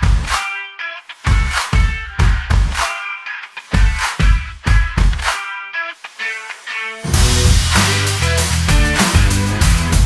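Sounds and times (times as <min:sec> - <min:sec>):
music with heavy beat: 0:00.0 - 0:10.0.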